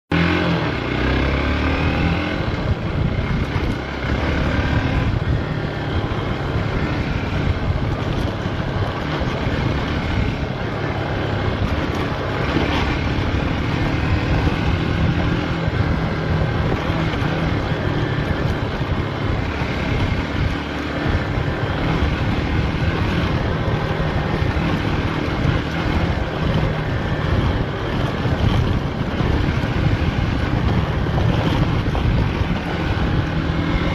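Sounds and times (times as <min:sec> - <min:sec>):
off-road vehicle engine running: 0:00.1 - 0:33.9.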